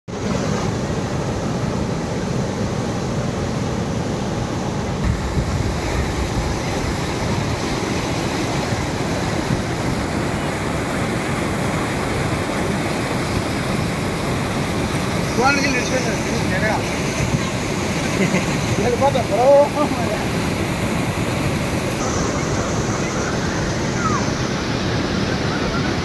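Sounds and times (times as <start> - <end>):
rushing water roaring: 0.1 - 26.0.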